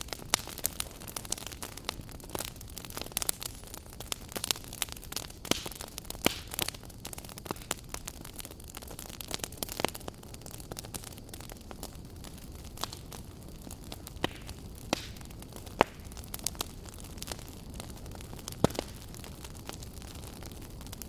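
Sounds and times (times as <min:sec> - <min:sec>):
low hiss of fire: 0:00.0 - 0:21.0
wood fire crackling: 0:00.0 - 0:21.0.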